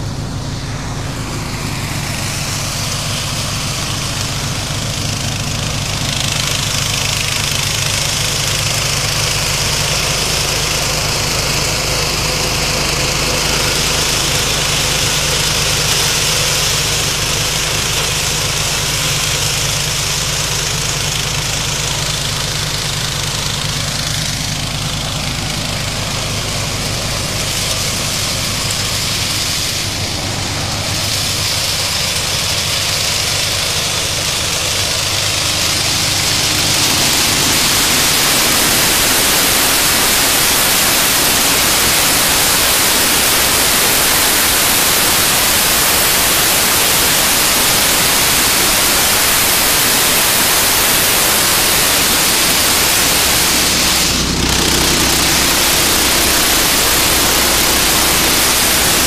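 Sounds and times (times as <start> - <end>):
harvester engine running: 0.0 - 59.0
broad mechanical hiss: 1.0 - 59.0.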